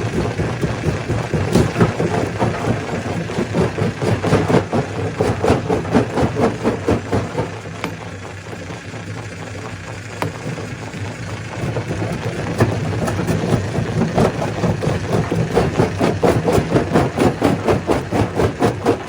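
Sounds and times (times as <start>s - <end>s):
stone crusher droning: 0.0s - 19.0s.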